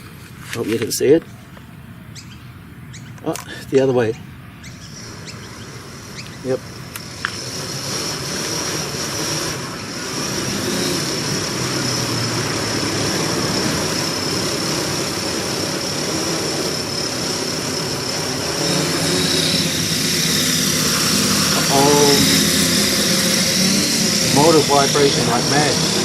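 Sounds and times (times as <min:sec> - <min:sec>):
drone propellers whining: 0:01.4 - 0:26.0.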